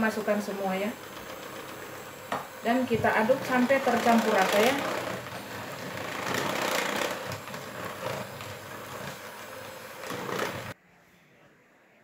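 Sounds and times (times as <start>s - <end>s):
electric hand mixer running: 0.0s - 10.8s.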